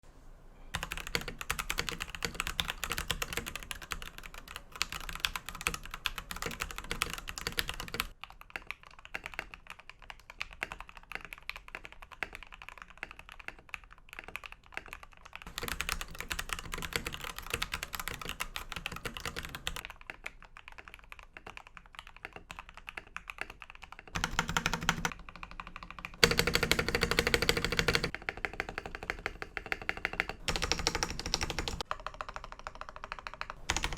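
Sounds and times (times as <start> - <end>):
typing on mechanical keyboard: 0.8 - 33.9.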